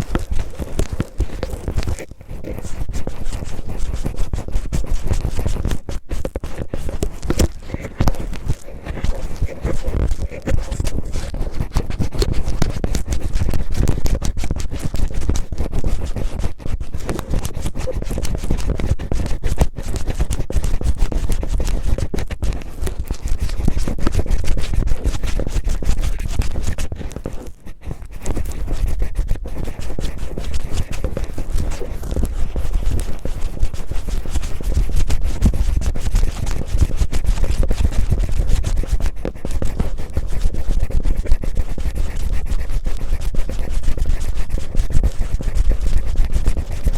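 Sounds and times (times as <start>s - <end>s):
cellophane crinkling on microphone: 0.0s - 46.9s.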